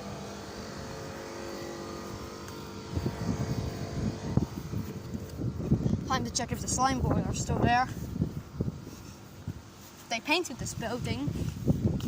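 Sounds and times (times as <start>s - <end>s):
boiler burner and fan humming: 0.0s - 12.0s.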